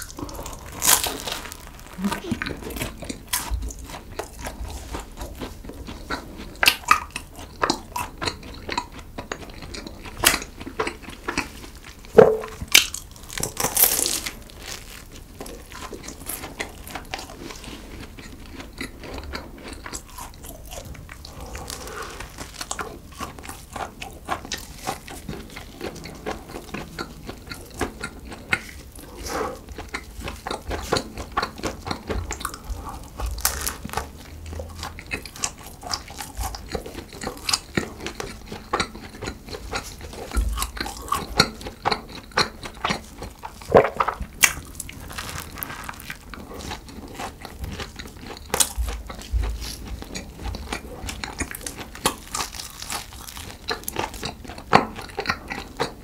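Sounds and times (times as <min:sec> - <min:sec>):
chewing: 0:00.0 - 0:56.0
pastry crunching while eating: 0:00.0 - 0:56.0.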